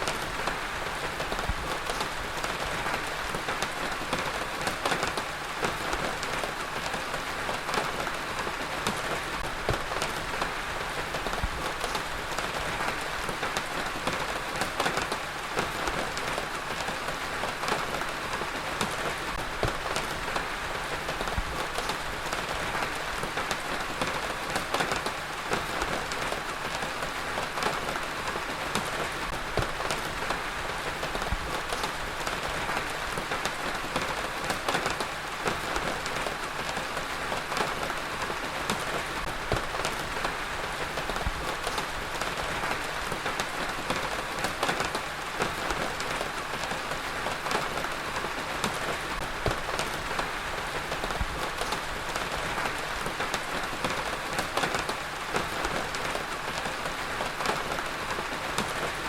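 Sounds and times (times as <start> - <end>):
heavy rain on hard surface: 0.0 - 59.0.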